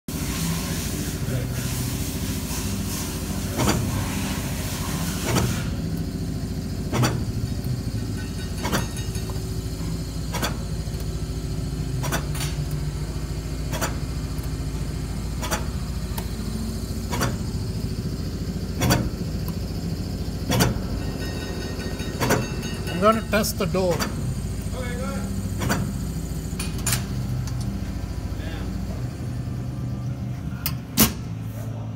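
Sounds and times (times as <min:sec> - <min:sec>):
machine humming: 0:00.1 - 0:31.9.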